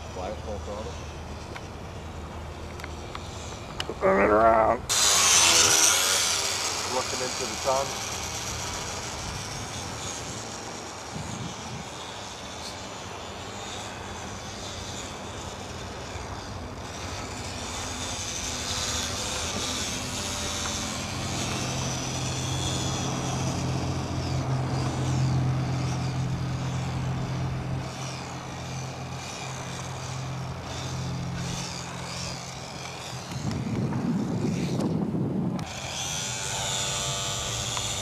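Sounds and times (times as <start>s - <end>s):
model airplane motor whining: 0.0s - 38.0s.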